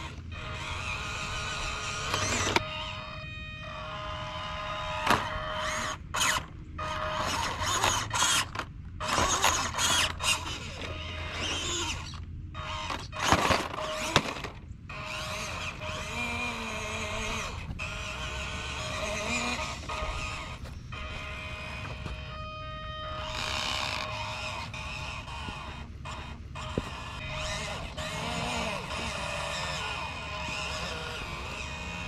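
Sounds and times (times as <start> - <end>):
toy car electric motor whining: 0.0 - 32.0.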